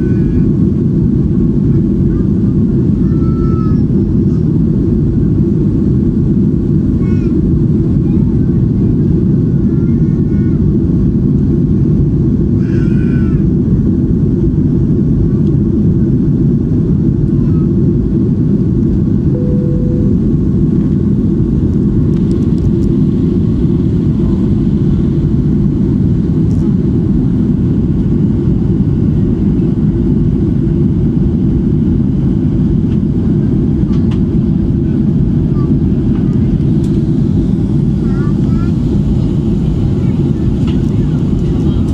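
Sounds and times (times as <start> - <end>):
jet airliner cabin drone: 0.0 - 41.9.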